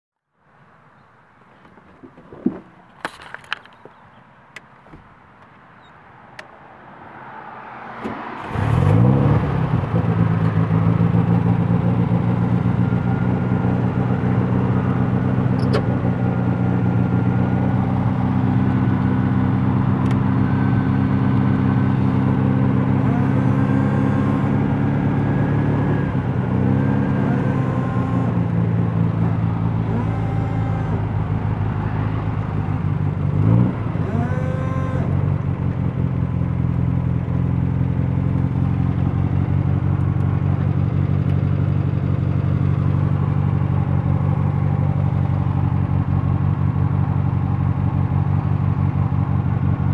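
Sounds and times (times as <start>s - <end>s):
car engine running: 8.4s - 49.9s.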